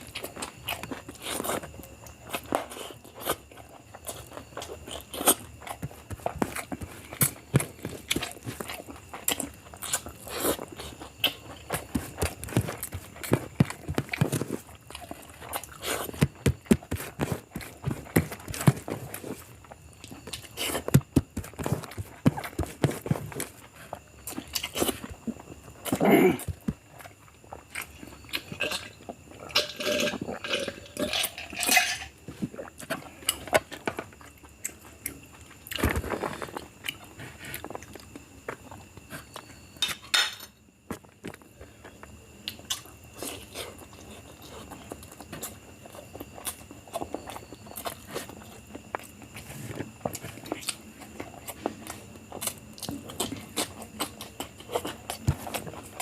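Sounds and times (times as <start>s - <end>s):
person chewing and crunching: 0.0s - 40.1s, 40.9s - 56.0s.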